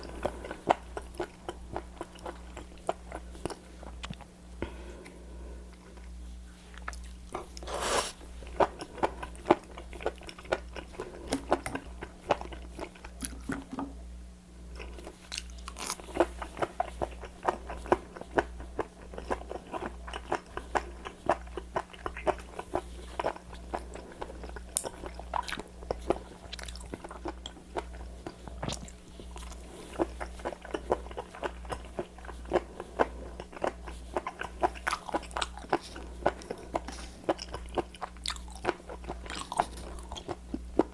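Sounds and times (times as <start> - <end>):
chewing and biting: 0.0 - 4.3, 5.7 - 13.7, 14.7 - 40.9
low electrical hum: 0.0 - 40.9.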